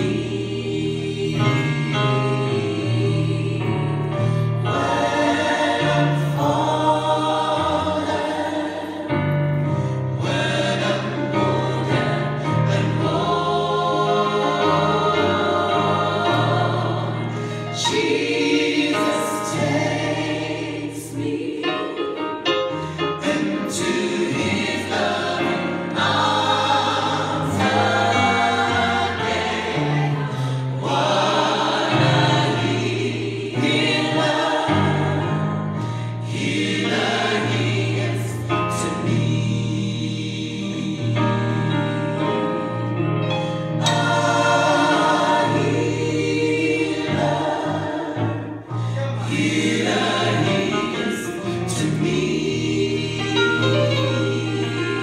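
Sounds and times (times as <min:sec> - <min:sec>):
gospel choir singing: 0:00.0 - 0:55.0.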